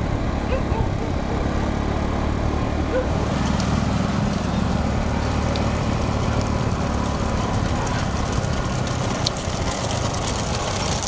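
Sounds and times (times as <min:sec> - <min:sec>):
road and wind noise: 0:00.0 - 0:11.0
vehicle engine humming: 0:00.0 - 0:11.0.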